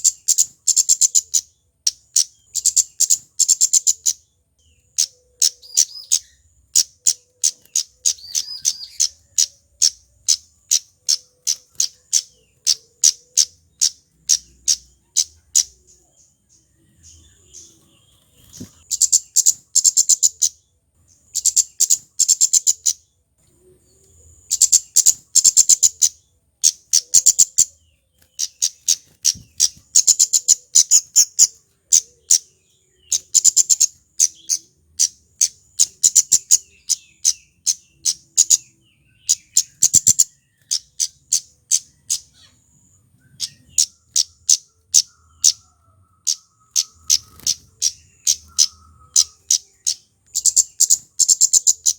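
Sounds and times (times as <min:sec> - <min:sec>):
bird singing high ticking notes: 0:00.0 - 0:51.9.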